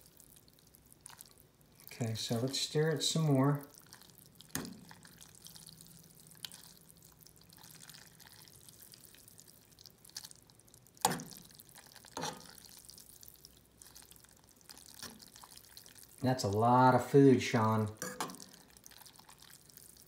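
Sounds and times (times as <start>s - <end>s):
noodles sizzling in pan: 0.0s - 16.7s, 17.4s - 20.0s.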